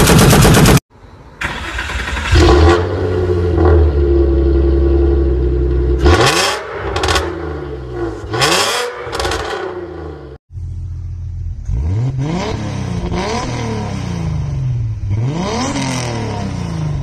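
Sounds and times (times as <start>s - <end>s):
car engine revving: 1.7s - 17.0s.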